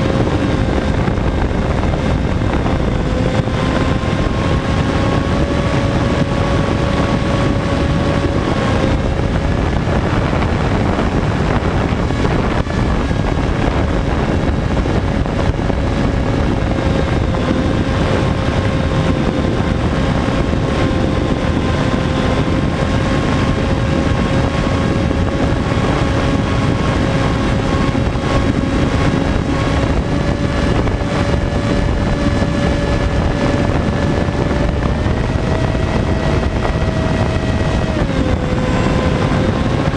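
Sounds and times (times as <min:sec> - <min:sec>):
wind rushing past microphone: 0:00.0 - 0:39.9.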